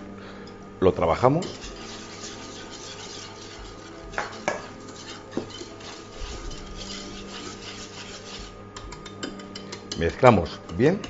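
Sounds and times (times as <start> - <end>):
whisk scraping pan: 1.0 - 11.0
whisk clinking: 1.2 - 11.0.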